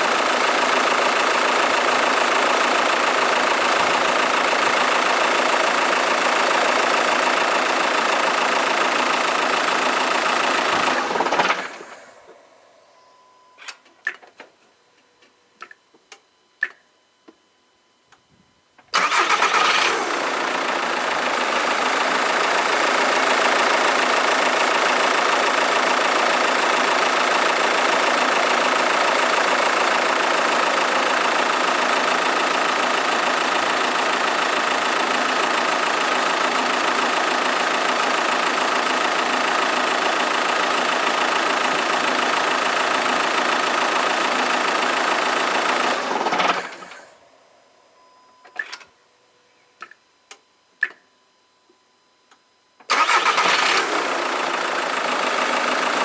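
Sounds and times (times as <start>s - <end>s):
diesel engine starting and idling: 0.0s - 13.0s, 18.9s - 47.7s, 52.8s - 56.0s.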